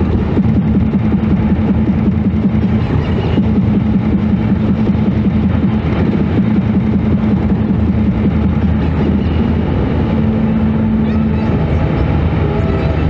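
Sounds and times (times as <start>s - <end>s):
road rumble: 0.0s - 13.0s
vehicle engine running: 0.0s - 13.0s.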